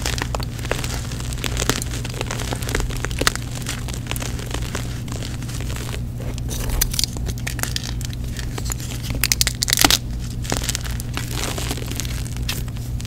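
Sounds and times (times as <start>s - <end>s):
chalk crunching by hand: 0.0s - 13.0s
low hum: 0.0s - 13.0s.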